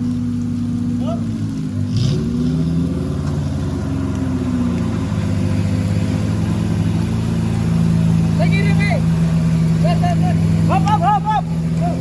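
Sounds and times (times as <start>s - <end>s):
engine running under load: 0.0s - 12.0s.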